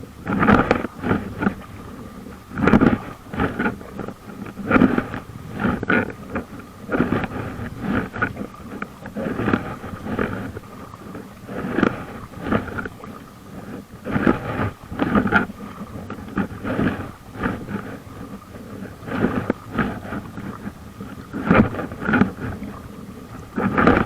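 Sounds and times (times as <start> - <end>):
paddle strokes splashing: 0.0 - 24.0
wind buffeting microphone: 0.0 - 24.0.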